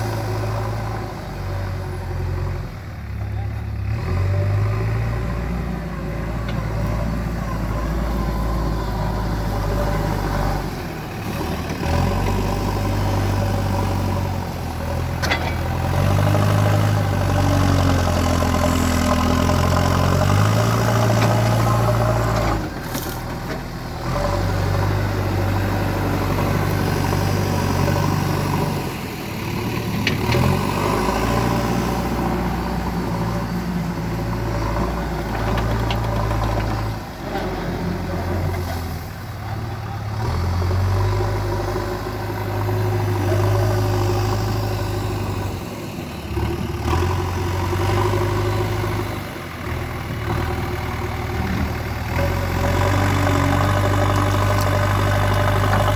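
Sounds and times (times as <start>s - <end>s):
diesel engine revving: 0.0s - 55.9s.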